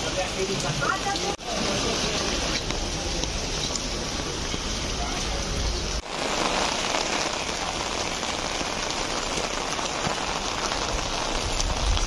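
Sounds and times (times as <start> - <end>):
rain on an umbrella: 0.0 - 12.0
rain on wet pavement: 0.0 - 12.0.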